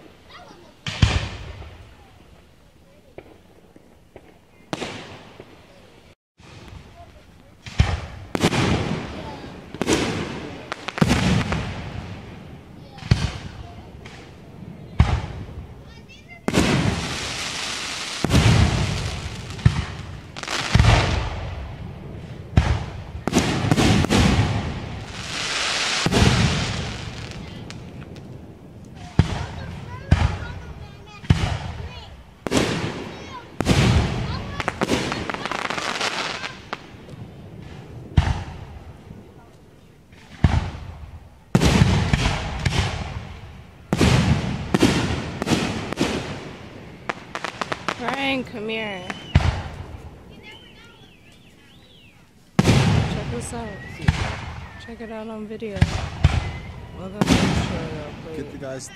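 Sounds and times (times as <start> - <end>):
fireworks booms: 0.0 - 51.6, 52.5 - 58.9.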